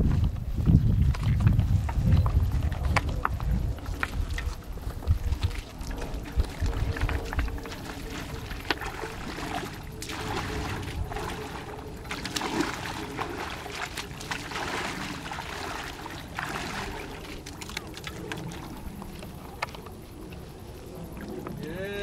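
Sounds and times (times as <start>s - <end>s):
shallow water splashing: 2.6s - 21.6s.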